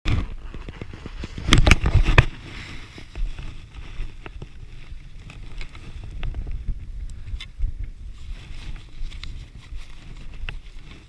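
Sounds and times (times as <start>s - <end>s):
wind rumbling on microphone: 0.1s - 11.0s.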